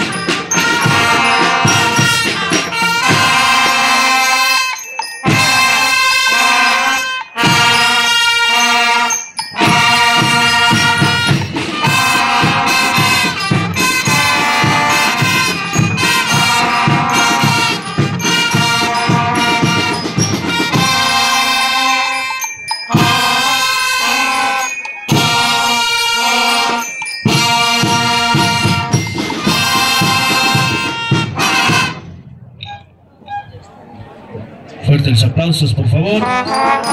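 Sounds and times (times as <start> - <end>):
steady drum beat: 0.0 - 32.5
brass band playing: 0.0 - 33.5, 35.9 - 36.9.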